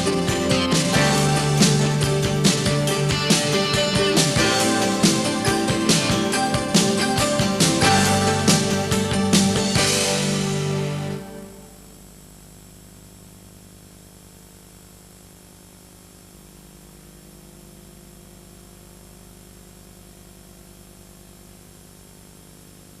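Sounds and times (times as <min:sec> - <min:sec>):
electrical hum and buzz: 0:00.0 - 0:23.0.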